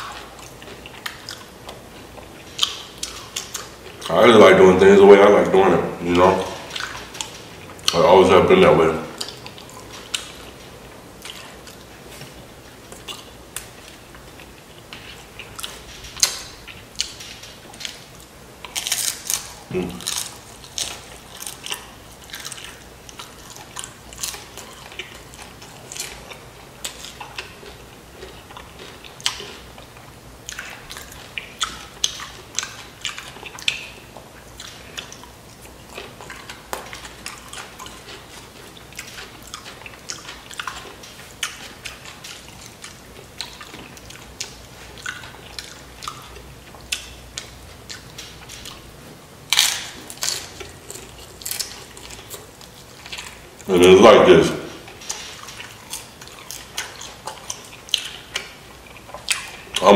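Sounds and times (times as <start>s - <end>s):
chewing and crunching chips: 0.0s - 59.9s.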